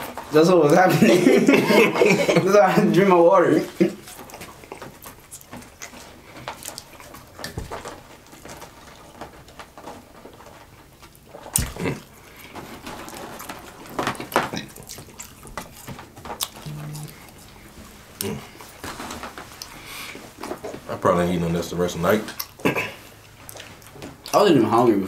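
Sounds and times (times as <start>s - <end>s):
wet chewing: 0.6s - 21.0s, 21.6s - 24.5s.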